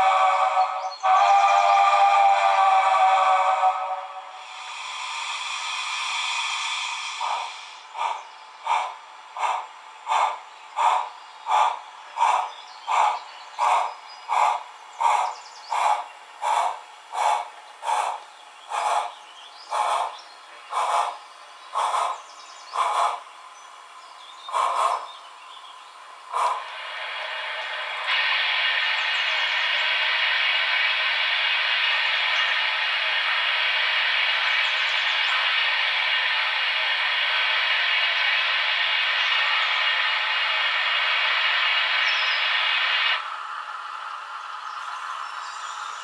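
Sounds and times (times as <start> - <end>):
steam hiss: 0.0 - 23.3, 24.5 - 25.1, 26.2 - 44.1
model locomotive exhaust chuffs: 0.0 - 46.0.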